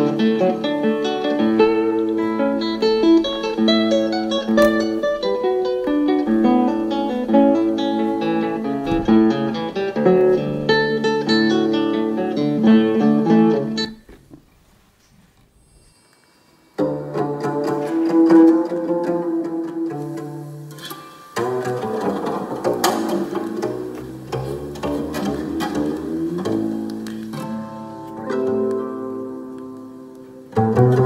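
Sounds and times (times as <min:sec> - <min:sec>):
acoustic guitar music through speakers: 0:00.0 - 0:14.4, 0:16.7 - 0:31.0.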